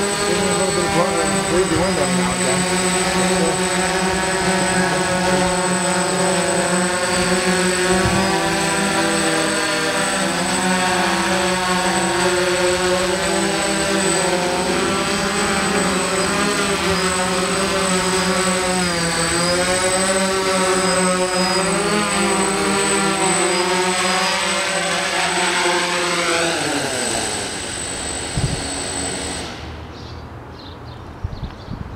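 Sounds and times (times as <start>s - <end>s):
drone motors whining: 0.0s - 30.1s.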